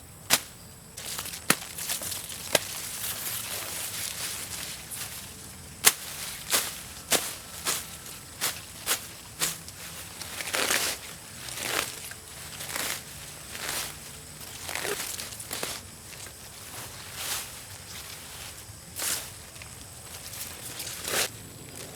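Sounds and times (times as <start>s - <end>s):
footsteps crunching on dry ground: 0.3s - 21.9s.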